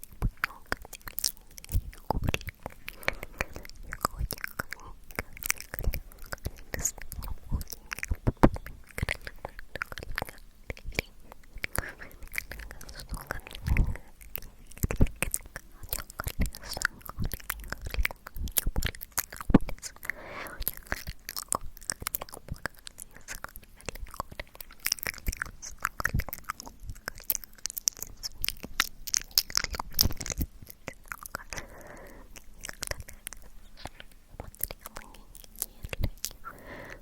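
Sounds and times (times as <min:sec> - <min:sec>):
wet mouth clicks and smacks: 0:00.0 - 0:37.0.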